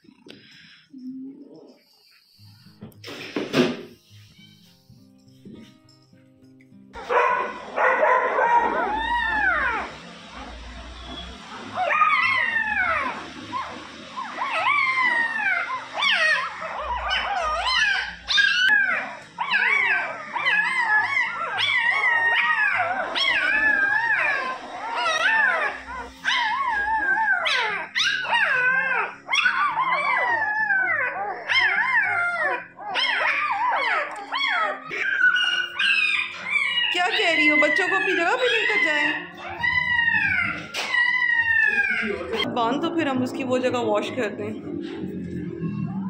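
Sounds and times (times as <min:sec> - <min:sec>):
puppies whining and crying: 0:07.0 - 0:46.0.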